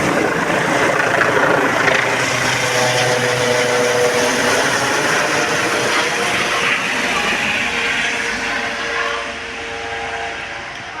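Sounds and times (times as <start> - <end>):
helicopter turbines and rotor: 0.0 - 11.0.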